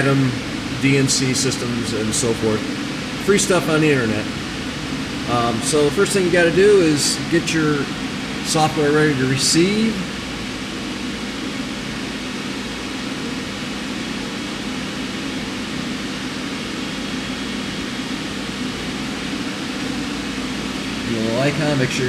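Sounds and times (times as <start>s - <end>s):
machinery hum and hiss: 0.0s - 22.0s.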